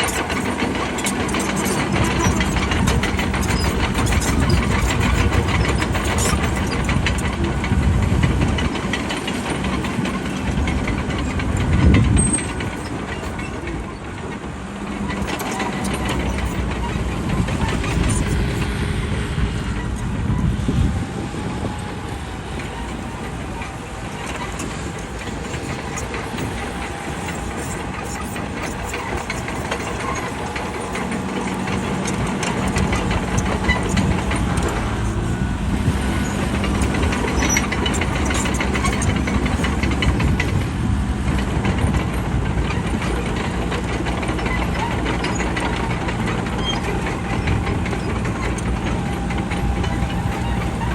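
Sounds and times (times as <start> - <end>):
bulldozer diesel engine under load: 0.0 - 50.9.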